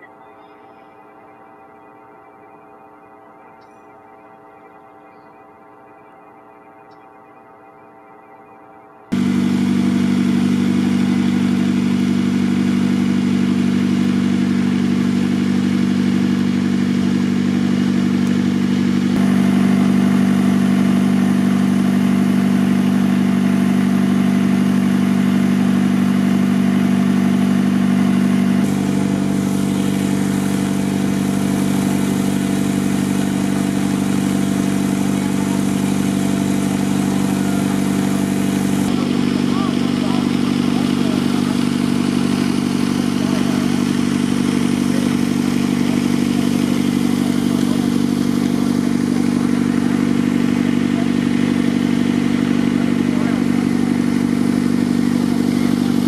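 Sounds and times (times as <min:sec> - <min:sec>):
engine-driven pump droning: 0:00.0 - 0:56.0.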